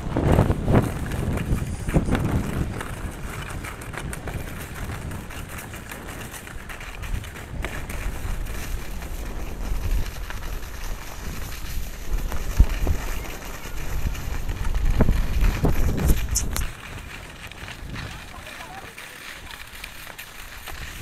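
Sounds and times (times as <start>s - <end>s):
skis hissing over snow: 0.0s - 21.0s
wind buffeting microphone: 0.0s - 21.0s.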